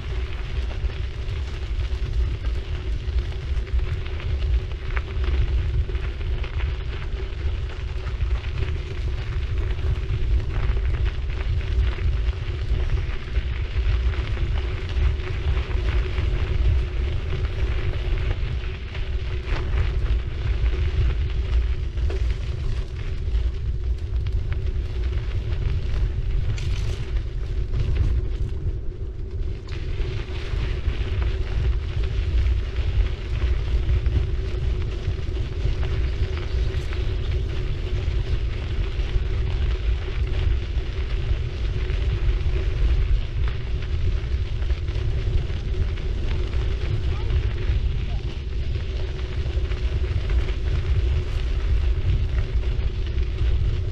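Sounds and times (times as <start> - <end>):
tyres crackling on road: 0.0 - 53.9
wind buffeting microphone: 0.0 - 53.9.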